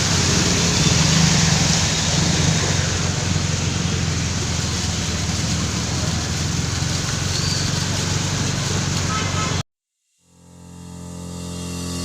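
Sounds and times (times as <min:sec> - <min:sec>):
heavy rain pouring: 0:00.0 - 0:09.6.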